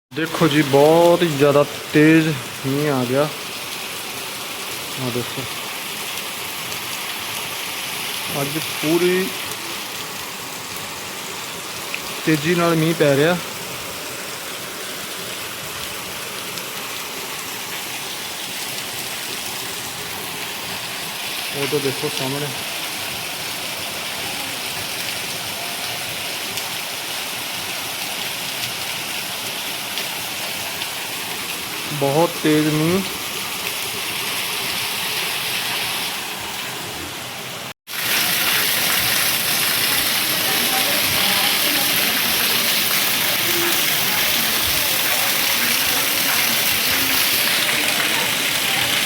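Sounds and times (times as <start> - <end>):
heavy rain falling: 0.1 - 49.0.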